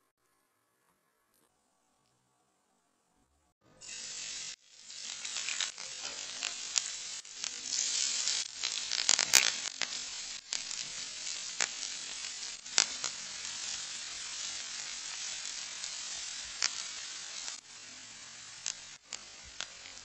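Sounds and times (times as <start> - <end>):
crackles and pops of frying: 3.8 - 20.0
vegetables sizzling in hot oil: 3.8 - 20.0.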